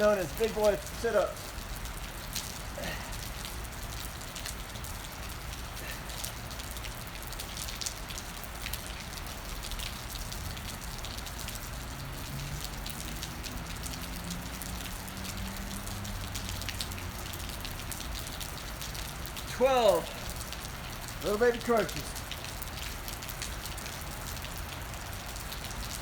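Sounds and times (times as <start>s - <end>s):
raindrops ticking close by: 0.0s - 26.0s
steady rain falling: 0.0s - 26.0s.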